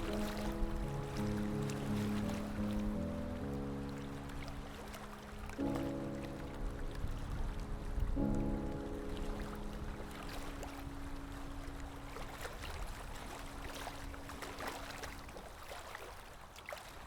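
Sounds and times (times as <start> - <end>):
soft background music: 0.0 - 16.2
sea water lapping and splashing: 0.0 - 17.0.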